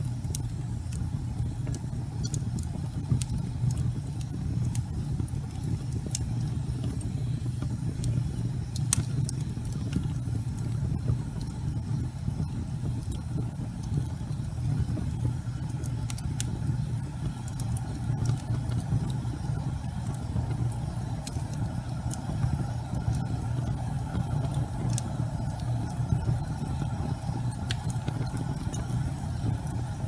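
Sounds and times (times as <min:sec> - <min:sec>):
burning wood crackling and popping: 0:00.0 - 0:30.0
low rumble of flames: 0:00.0 - 0:30.0.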